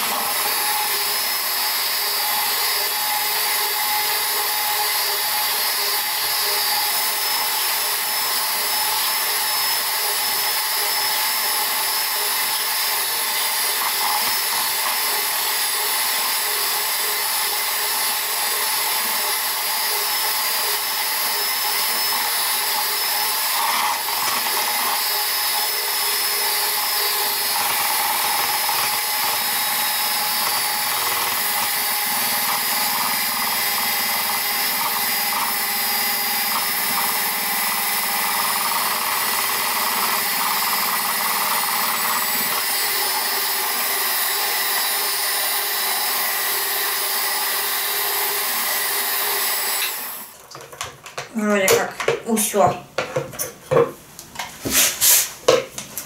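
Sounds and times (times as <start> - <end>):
electric hand mixer running: 0.0 - 52.1.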